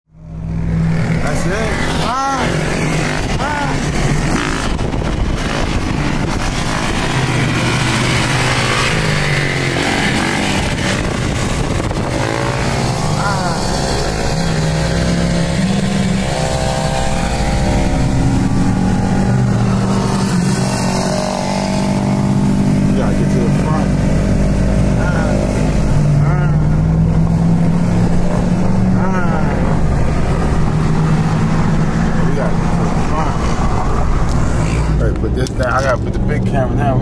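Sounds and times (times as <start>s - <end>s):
car engine and road noise: 0.1s - 37.0s
dirt bike engines revving: 0.2s - 37.0s.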